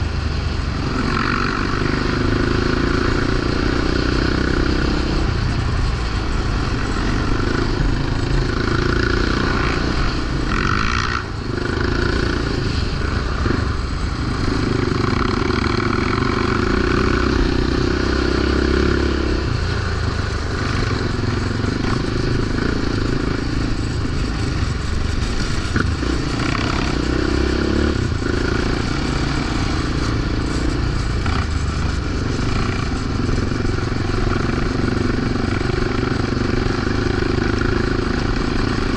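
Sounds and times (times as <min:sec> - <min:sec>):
quad bike engine revving: 0:00.7 - 0:05.4, 0:06.4 - 0:38.9.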